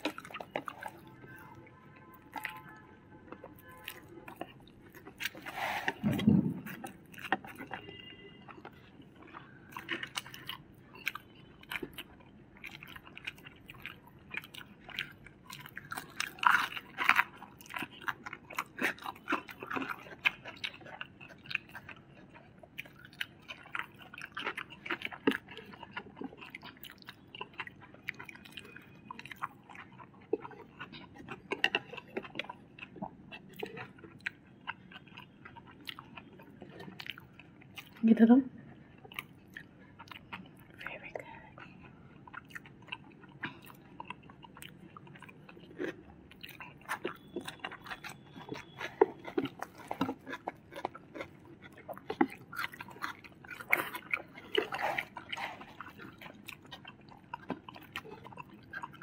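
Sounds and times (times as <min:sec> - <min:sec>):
chewing crispy food: 0:00.0 - 0:59.0.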